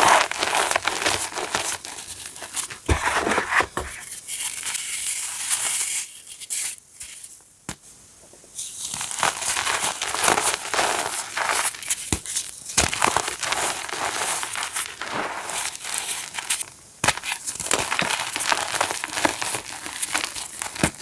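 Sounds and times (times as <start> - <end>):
chalk crunching and crackling: 0.0 - 7.4, 8.6 - 21.0.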